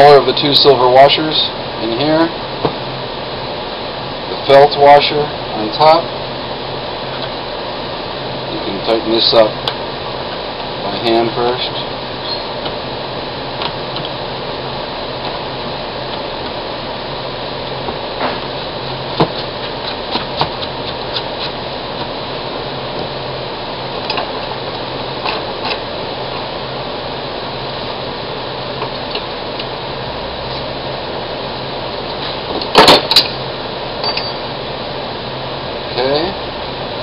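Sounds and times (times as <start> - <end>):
fan-like hum: 0.0 - 37.0.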